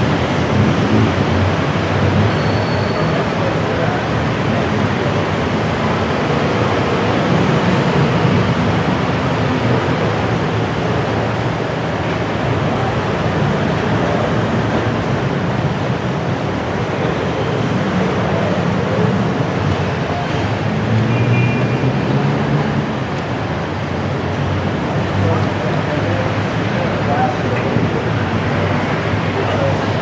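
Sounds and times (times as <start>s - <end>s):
city traffic hum: 0.0s - 30.0s.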